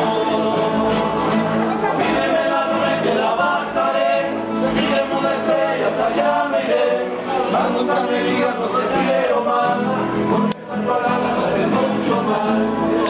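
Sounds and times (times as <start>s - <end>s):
group singing in harmony: 0.0s - 13.0s.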